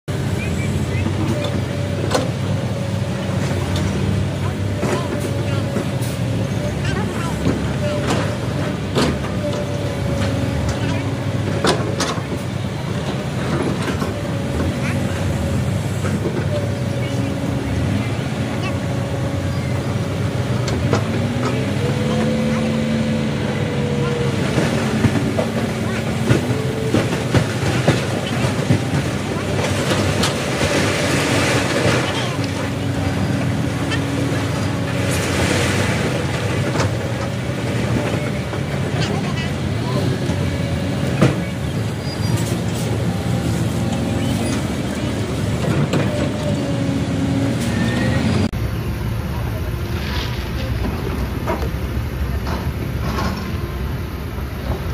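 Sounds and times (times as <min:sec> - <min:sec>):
diesel engines running: 0:00.0 - 0:54.9.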